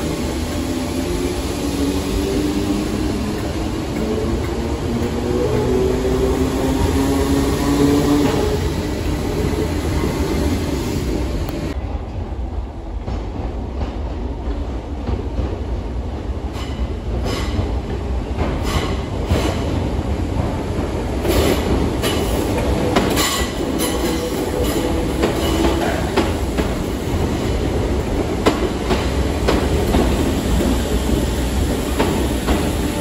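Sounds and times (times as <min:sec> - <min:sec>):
train low rumble: 0:00.0 - 0:33.0.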